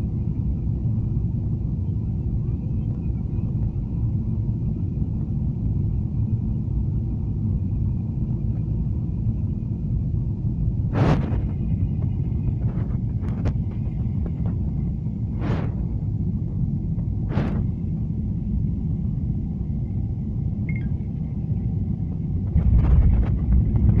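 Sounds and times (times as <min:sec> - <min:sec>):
airliner cabin rumble: 0:00.0 - 0:24.0
faint steady whine: 0:00.0 - 0:24.0.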